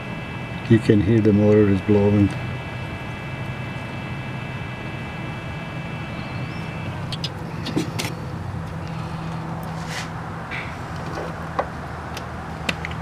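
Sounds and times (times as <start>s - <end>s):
cooling fan whirring: 0.0s - 13.0s
low hum: 0.0s - 13.0s.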